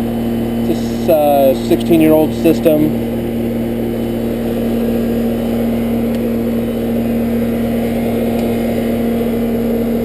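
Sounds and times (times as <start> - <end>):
air conditioner unit humming: 0.0 - 10.0.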